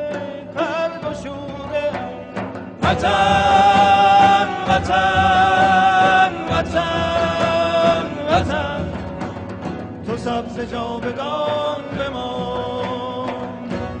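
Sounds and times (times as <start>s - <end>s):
patriotic song with long held notes: 0.0s - 14.0s.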